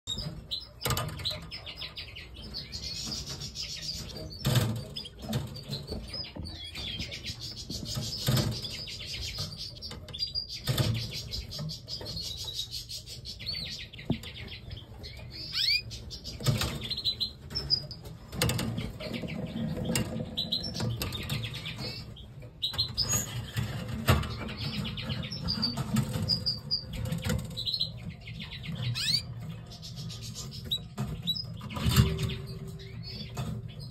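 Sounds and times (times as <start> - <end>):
canaries chirping: 0.0 - 33.9.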